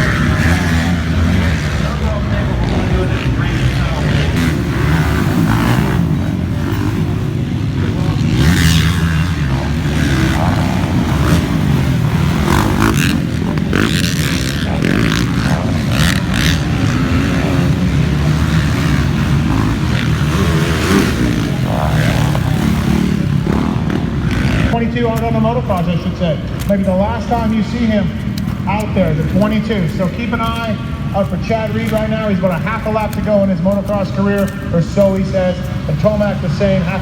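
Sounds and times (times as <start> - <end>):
motocross bike engines revving: 0.0 - 37.0.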